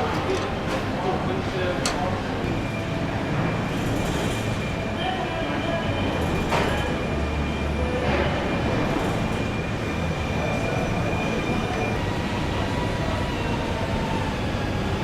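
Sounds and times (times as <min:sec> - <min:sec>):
machinery rumble: 0:00.0 - 0:15.0.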